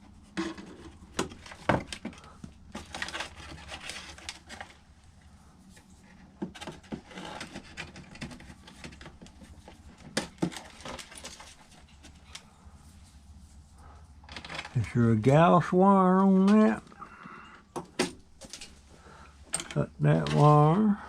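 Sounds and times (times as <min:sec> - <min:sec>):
steady low hum: 0:00.0 - 0:21.0
plastic and metal parts clattering: 0:00.1 - 0:05.0, 0:05.8 - 0:12.6, 0:13.9 - 0:15.0, 0:16.0 - 0:21.0.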